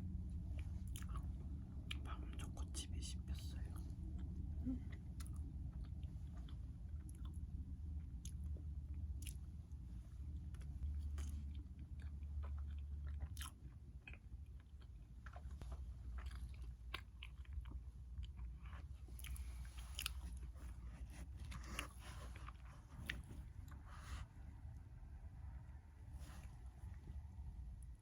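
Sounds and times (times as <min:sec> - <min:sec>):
low steady hum: 0:00.0 - 0:28.0
chewing with mouth clicks: 0:00.4 - 0:24.8.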